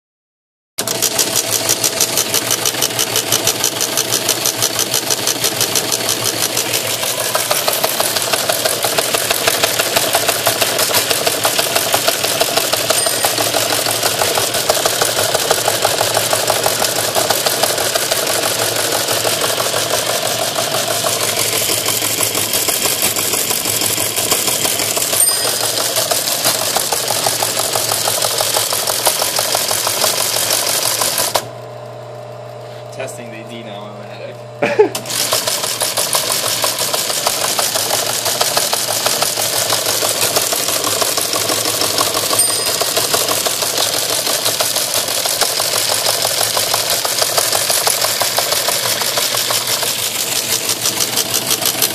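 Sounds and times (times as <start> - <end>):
teleprinter mechanical clatter: 0.8 - 31.5, 35.0 - 51.9
steady motor hum: 0.8 - 51.9.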